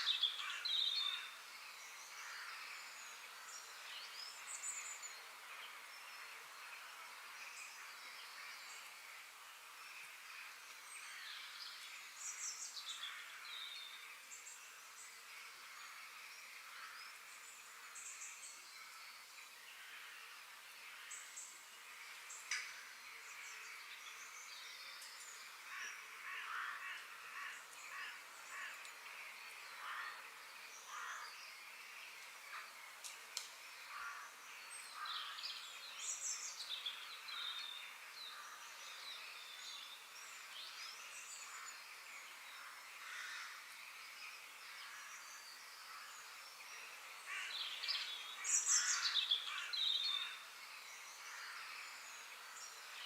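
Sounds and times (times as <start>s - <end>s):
steady natural background hiss: 0.0s - 53.0s
wild birds chirping and calling: 0.0s - 53.0s.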